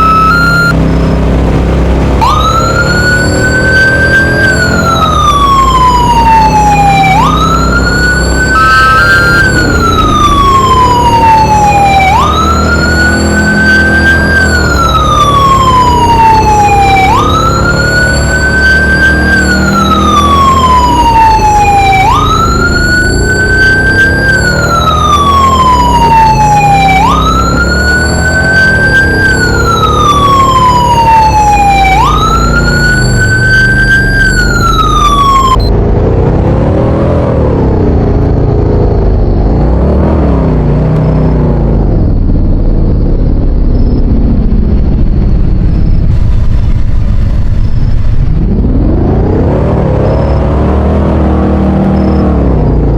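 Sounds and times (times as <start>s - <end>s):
fire engine siren wailing: 0.0s - 52.9s
vehicle low rumble: 0.0s - 52.9s.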